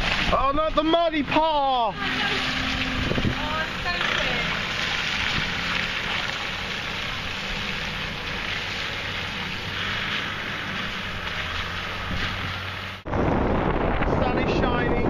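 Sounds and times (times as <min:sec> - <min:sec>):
vehicle engine humming: 0:00.0 - 0:13.9
tyre noise on dirt track: 0:00.0 - 0:14.3.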